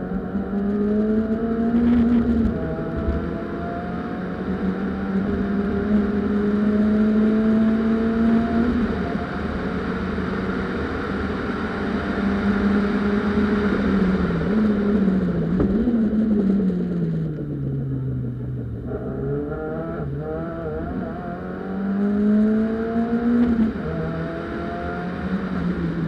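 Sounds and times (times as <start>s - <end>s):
car engine under full throttle: 0.0s - 26.0s.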